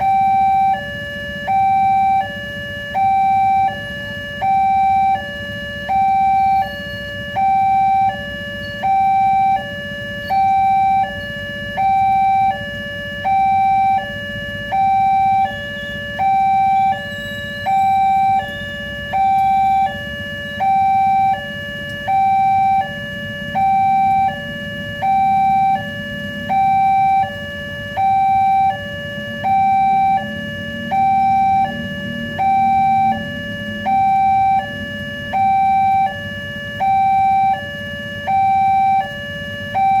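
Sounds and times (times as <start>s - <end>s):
level-crossing two-tone alarm: 0.0s - 40.0s.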